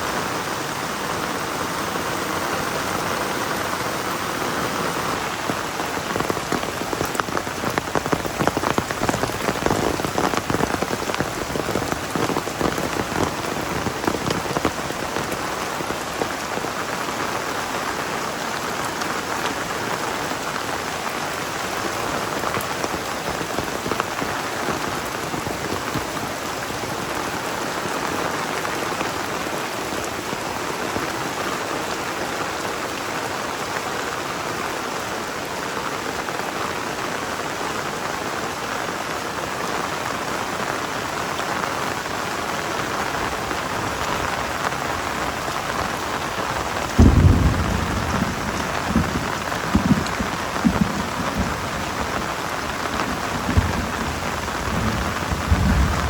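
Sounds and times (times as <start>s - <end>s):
heavy rain hiss: 0.0s - 56.0s
sharp raindrop impacts: 0.0s - 56.0s.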